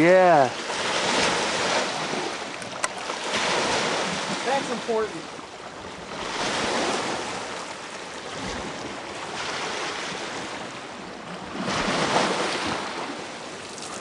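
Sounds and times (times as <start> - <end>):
waves washing onto shore: 0.0 - 14.0.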